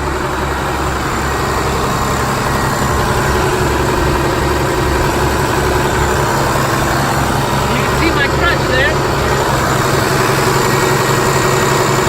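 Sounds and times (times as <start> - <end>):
diesel truck engines humming: 0.0 - 12.0.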